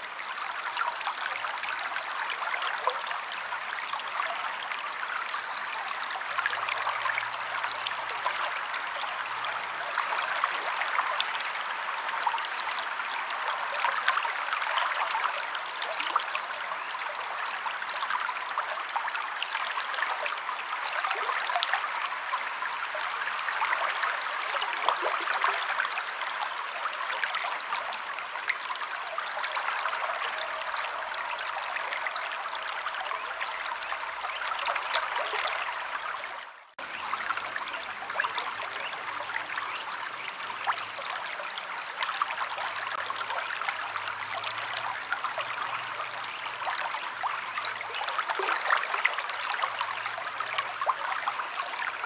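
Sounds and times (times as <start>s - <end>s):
river water flowing over stones: 0.0s - 52.0s.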